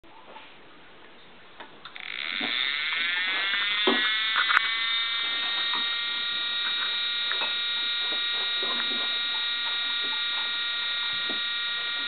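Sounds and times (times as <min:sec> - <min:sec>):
fan siren whine rising: 0:02.0 - 0:12.0.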